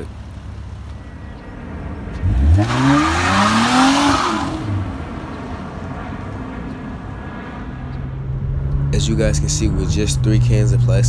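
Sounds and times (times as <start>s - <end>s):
tires screeching: 0.0s - 11.0s
car engine revving: 1.6s - 11.0s.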